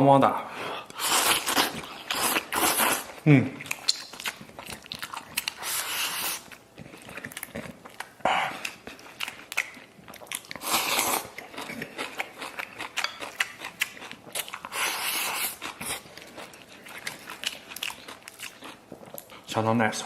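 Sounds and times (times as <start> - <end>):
person chewing food: 0.8 - 19.5.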